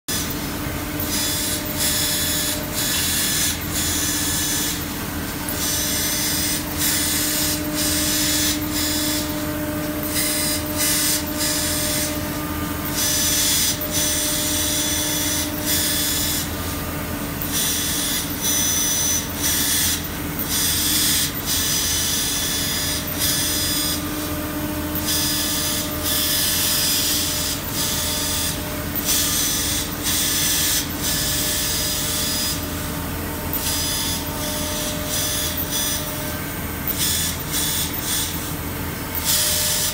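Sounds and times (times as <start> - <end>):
laser cutter motors whining: 0.1 - 39.9.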